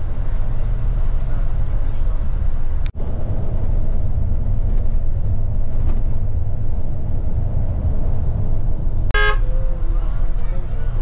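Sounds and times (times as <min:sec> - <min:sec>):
coach engine and tyre rumble: 0:00.0 - 0:11.0.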